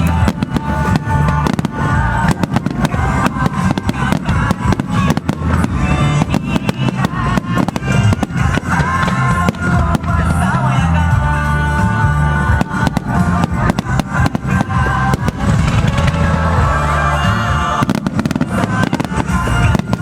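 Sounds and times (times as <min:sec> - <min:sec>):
fireworks bursting and crackling: 0:00.0 - 0:20.0
loud music with pulsing bass: 0:00.0 - 0:20.0.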